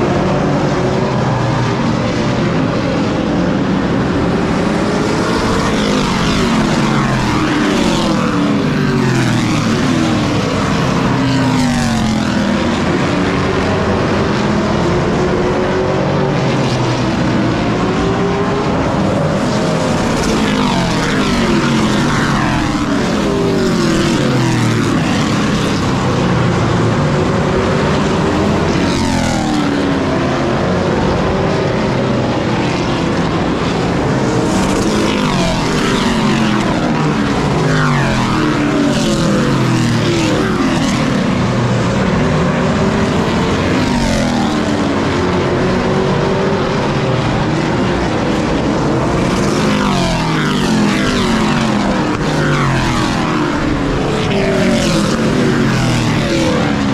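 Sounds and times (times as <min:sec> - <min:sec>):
race truck engines running hard: 0:00.0 - 0:56.9.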